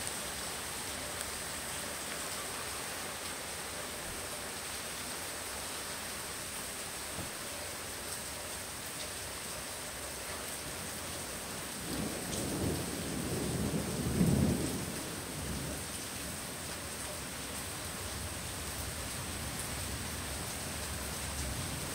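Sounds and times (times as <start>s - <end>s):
heavy rain: 0.0s - 21.9s.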